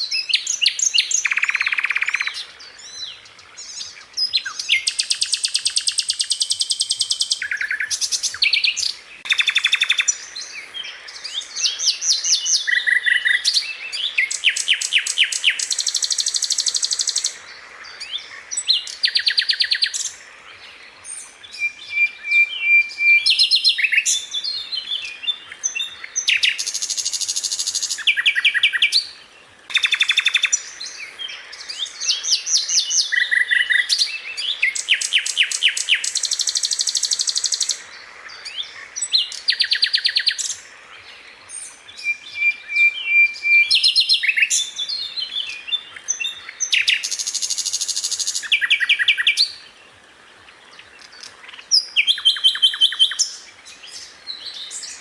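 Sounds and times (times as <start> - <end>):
flycatcher singing: 0.0 - 17.5, 18.1 - 49.7.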